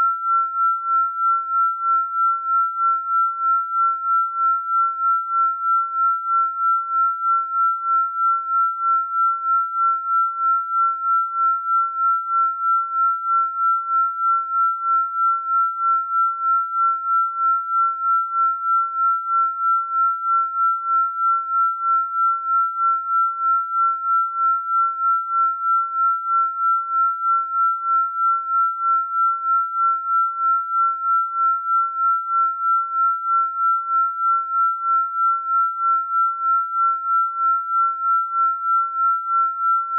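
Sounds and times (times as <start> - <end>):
pulsing high sine tone: 0.0 - 39.9.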